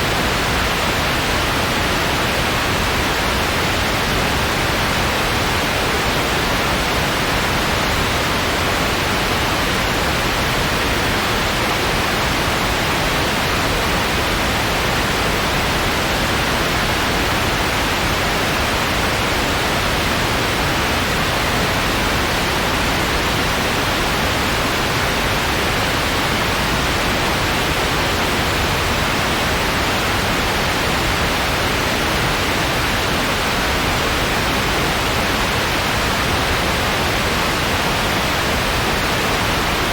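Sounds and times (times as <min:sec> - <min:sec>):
steady noise hiss: 0:00.0 - 0:39.9.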